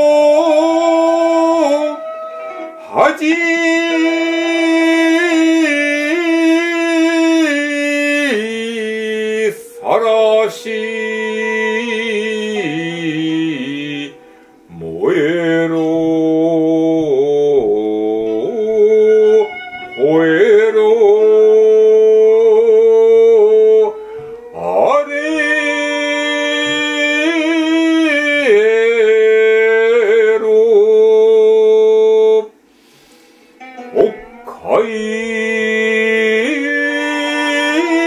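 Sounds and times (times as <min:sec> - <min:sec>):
man chanting: 0:00.0 - 0:32.6, 0:33.8 - 0:38.0
instrumental backing music: 0:00.0 - 0:38.0.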